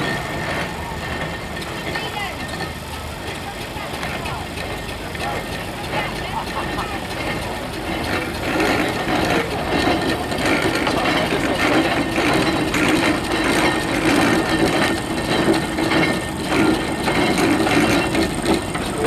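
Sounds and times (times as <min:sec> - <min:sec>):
steady mechanical hum: 0:00.0 - 0:19.0
steam engine exhaust chuffing: 0:00.0 - 0:19.0.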